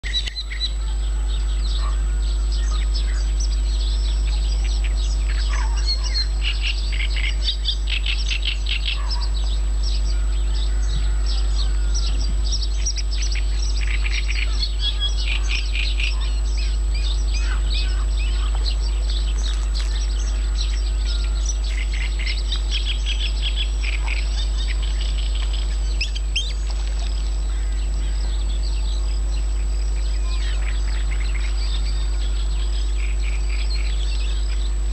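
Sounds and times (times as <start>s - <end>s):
songbirds singing: 0.0s - 34.9s
steady low rumble: 0.0s - 34.9s.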